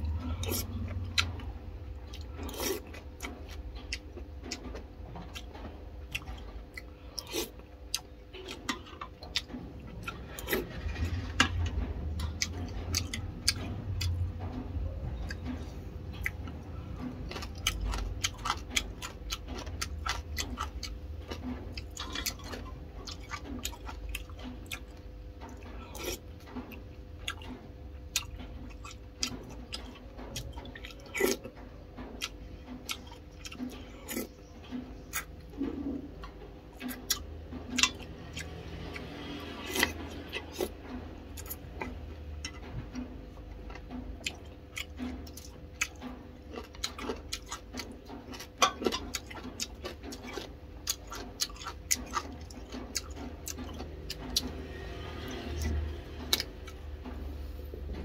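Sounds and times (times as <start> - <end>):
chewing: 0.0 - 57.2
steady low hum: 0.0 - 58.0.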